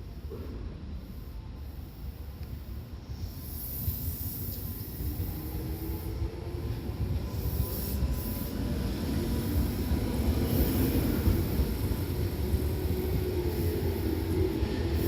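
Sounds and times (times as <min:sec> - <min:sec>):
electric train wheels rumbling: 0:00.0 - 0:15.0
faint steady train whine: 0:00.0 - 0:15.0.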